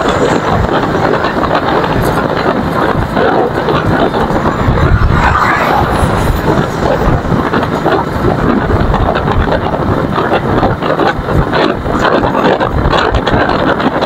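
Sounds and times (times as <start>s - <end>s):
motorcycle running: 0.0s - 14.0s
wind rushing over microphone: 0.0s - 14.0s.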